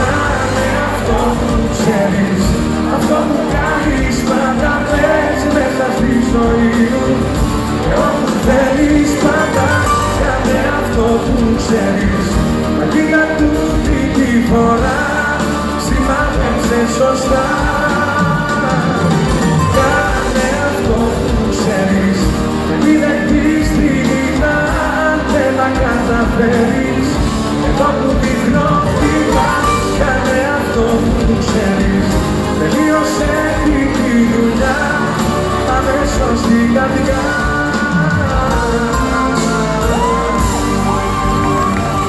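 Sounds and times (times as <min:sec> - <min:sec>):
live band playing: 0:00.0 - 0:42.0
man singing: 0:00.0 - 0:42.0.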